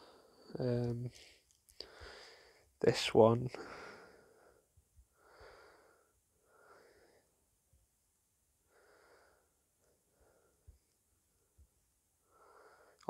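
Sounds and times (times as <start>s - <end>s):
faint breathy sounds: 0.0s - 2.8s, 3.5s - 7.5s, 8.6s - 13.0s.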